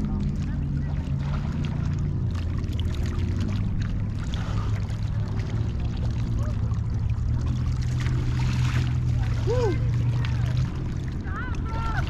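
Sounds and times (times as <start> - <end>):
steady low drone: 0.0 - 12.0
water splashing and sloshing: 0.0 - 12.0.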